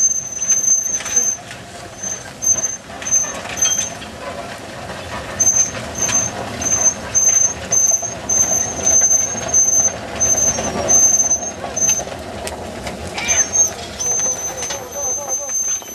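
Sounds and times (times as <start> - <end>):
cart wheels squeaking: 0.0 - 15.9.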